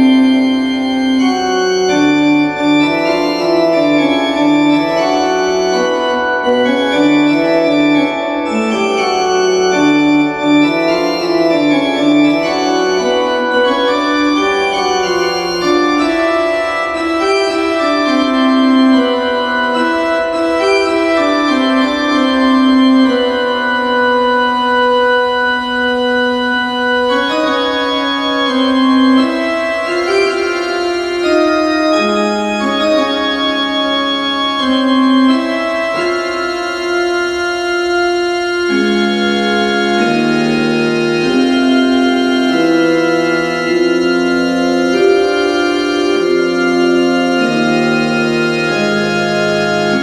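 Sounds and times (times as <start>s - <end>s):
electronic organ melody: 0.0s - 50.0s.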